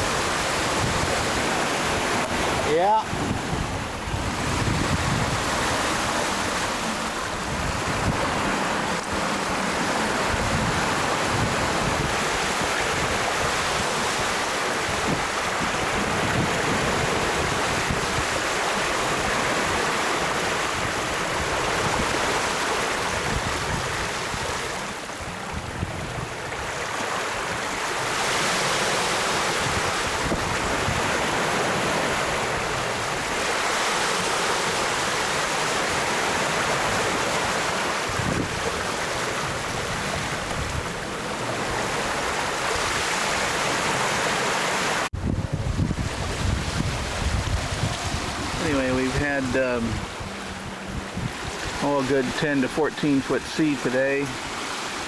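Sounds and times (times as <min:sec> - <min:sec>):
wind buffeting microphone: 0:00.0 - 0:28.2, 0:29.2 - 0:33.6, 0:35.2 - 0:44.4, 0:45.0 - 0:51.8
wind and sea rushing: 0:00.0 - 0:55.0.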